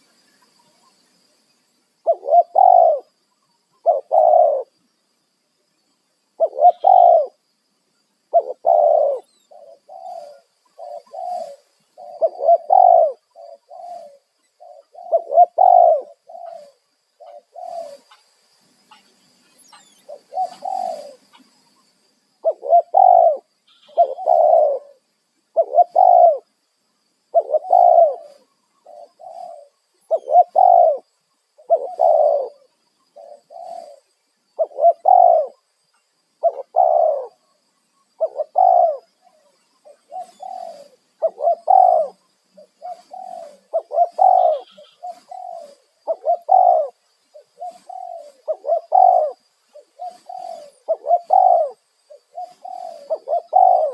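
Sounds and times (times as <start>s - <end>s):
dove cooing: 2.0s - 3.2s, 3.8s - 4.8s, 6.4s - 7.4s, 8.3s - 18.2s, 19.7s - 21.5s, 22.4s - 26.5s, 27.3s - 34.0s, 34.6s - 35.6s, 36.4s - 37.5s, 38.2s - 53.9s.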